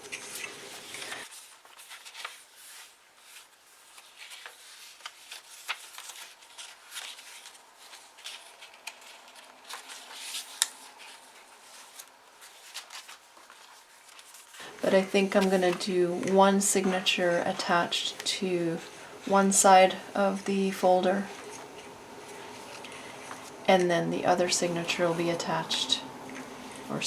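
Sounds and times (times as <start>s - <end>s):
paper and card rustling: 0.0s - 27.0s.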